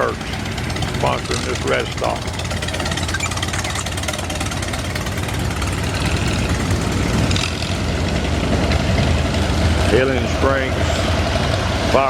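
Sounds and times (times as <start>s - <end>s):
tractor engines rumbling: 0.0s - 12.0s.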